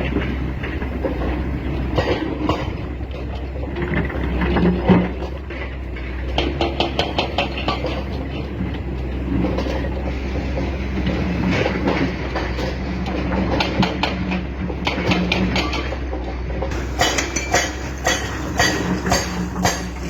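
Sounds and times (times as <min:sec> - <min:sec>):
excavator machine hum: 0:00.0 - 0:20.0.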